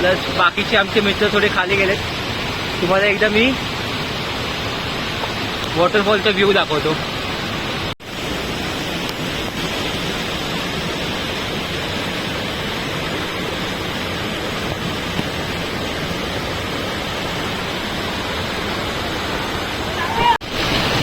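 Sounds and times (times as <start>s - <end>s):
waterfall pouring: 0.0s - 21.0s.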